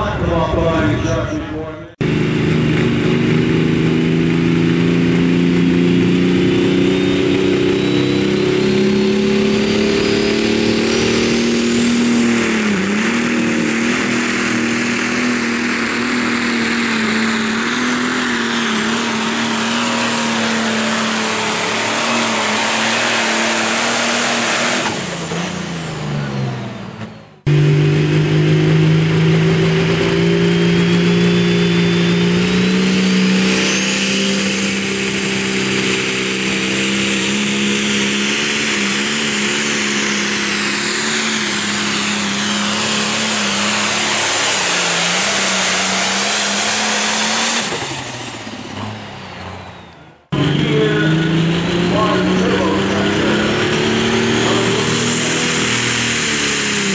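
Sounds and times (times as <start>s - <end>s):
diesel tractor engine at full throttle: 0.0s - 56.9s
turbo whine: 0.0s - 56.9s.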